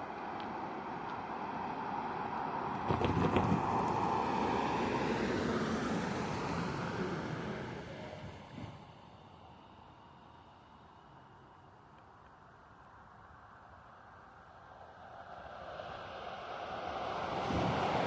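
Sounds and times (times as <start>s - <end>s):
road vehicle passing by: 0.0s - 10.7s, 13.8s - 18.0s.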